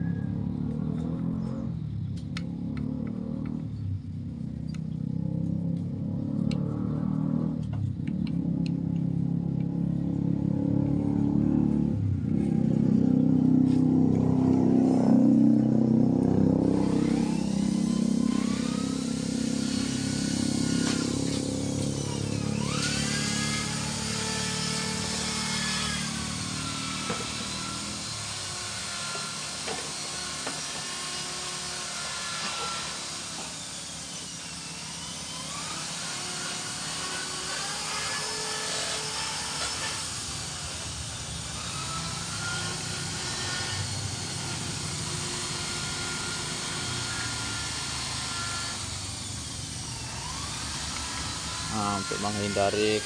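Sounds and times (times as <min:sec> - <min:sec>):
small engines running: 0:00.0 - 0:53.0.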